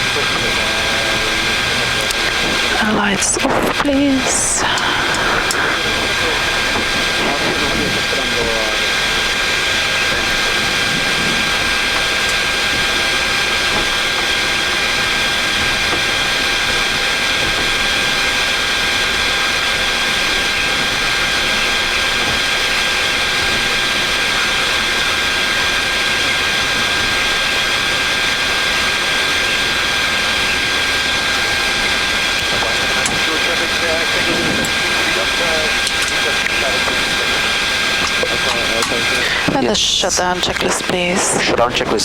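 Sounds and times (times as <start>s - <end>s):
jet engine idling: 0.0s - 42.0s.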